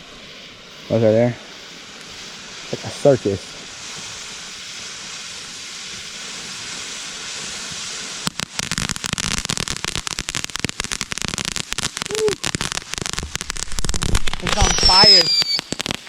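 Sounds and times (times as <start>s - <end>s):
firework hissing and crackling: 0.0s - 16.0s.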